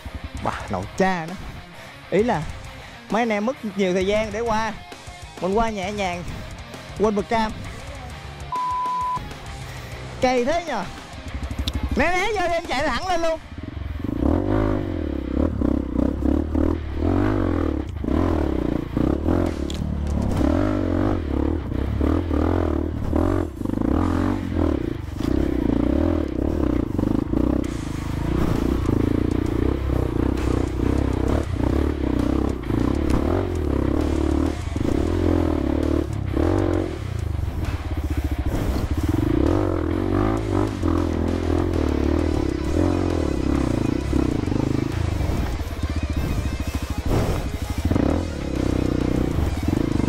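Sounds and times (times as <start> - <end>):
dirt bike engine revving: 0.0 - 50.0.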